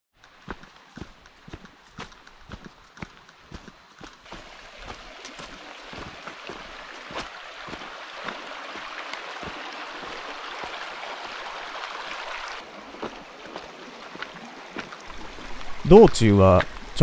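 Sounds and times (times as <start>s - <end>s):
footsteps on rocky streambed: 0.2s - 17.0s
stream babbling over stones: 0.2s - 17.0s.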